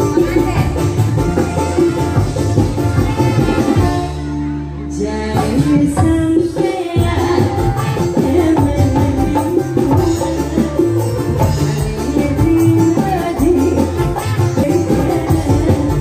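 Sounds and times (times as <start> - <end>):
hand drum rhythm: 0.0 - 4.2, 5.4 - 16.0
live band music over speakers: 0.0 - 16.0.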